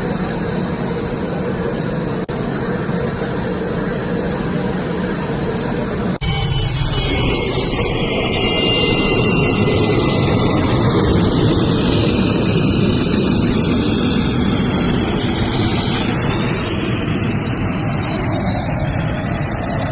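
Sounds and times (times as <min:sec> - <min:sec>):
high whines: 0:00.0 - 0:19.9
jet engines rushing: 0:00.0 - 0:19.9.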